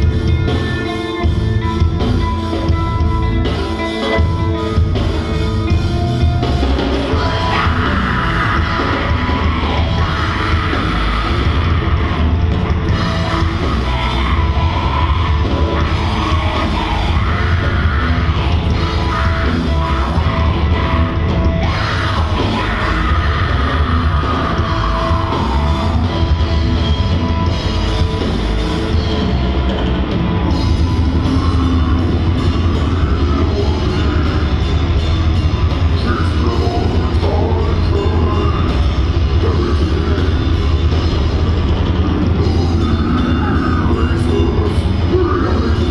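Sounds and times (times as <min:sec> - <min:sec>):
heavy metal band playing: 0:00.0 - 0:45.9
yelled vocals: 0:04.9 - 0:45.9.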